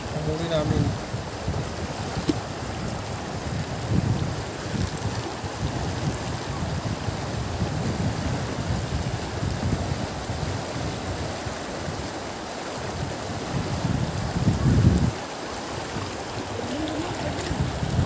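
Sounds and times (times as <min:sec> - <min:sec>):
flowing river water: 0:00.0 - 0:18.0
wind buffeting microphone: 0:00.0 - 0:18.0.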